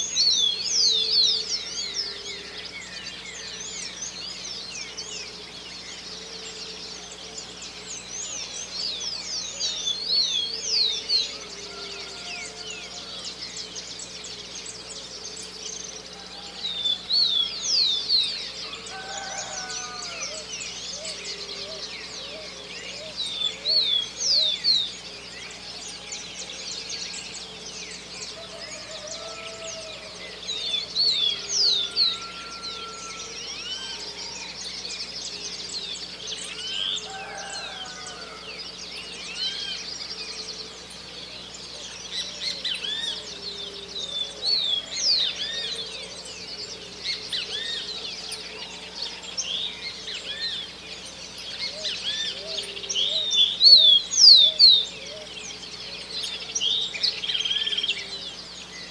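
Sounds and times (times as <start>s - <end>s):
birds chirping and calling: 0.0s - 58.9s.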